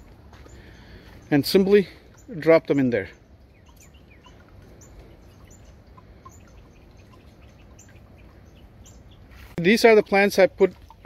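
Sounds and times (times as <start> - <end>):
birds chirping: 0.0 - 11.0
low steady background rush: 0.0 - 11.0.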